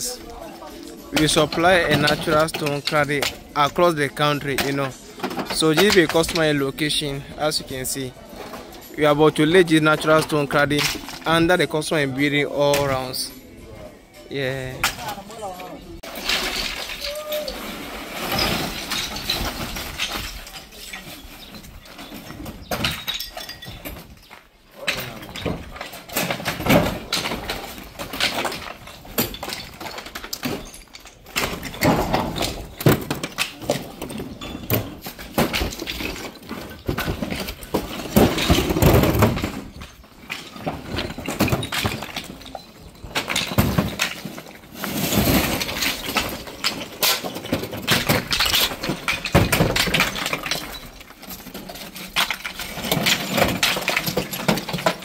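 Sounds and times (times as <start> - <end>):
stones clattering onto a pile: 0.0 - 11.4, 16.0 - 55.0.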